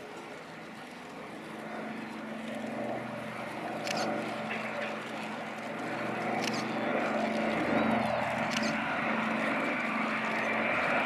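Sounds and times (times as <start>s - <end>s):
aircraft radial engines droning: 0.0s - 11.0s.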